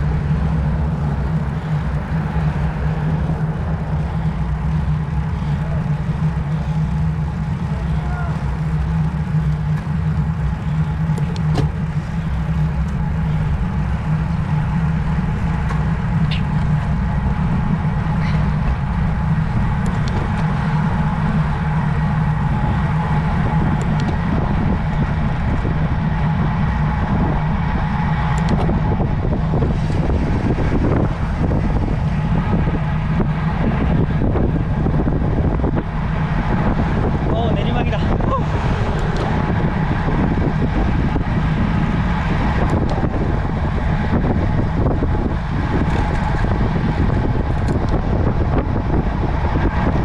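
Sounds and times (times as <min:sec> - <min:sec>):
wind rumbling over microphone: 0:00.0 - 0:50.0.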